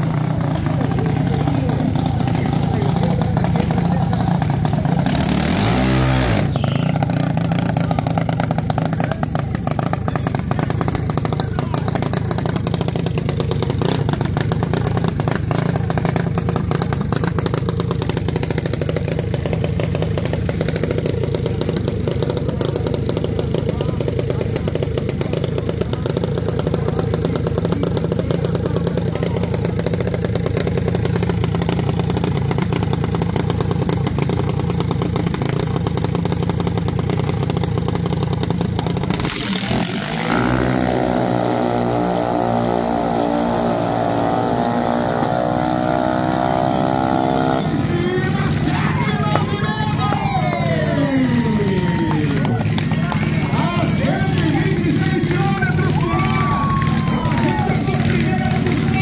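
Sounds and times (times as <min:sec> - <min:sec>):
dragster engine running steadily: 0:00.0 - 0:59.0.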